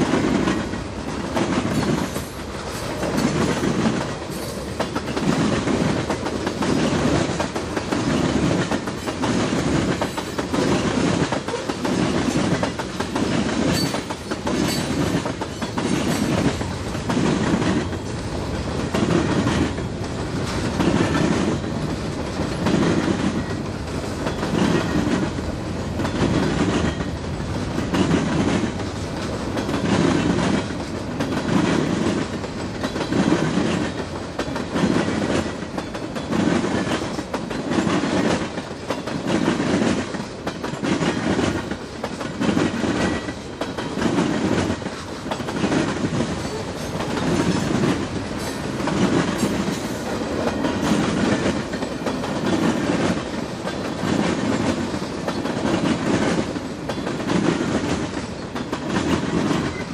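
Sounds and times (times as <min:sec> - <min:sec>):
train wheels clacking: 0:00.0 - 0:59.9.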